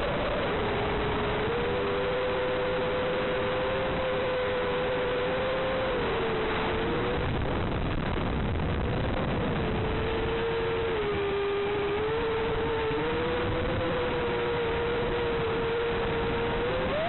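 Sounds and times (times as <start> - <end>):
quadcopter motors whining: 0.0 - 8.0, 9.0 - 17.0.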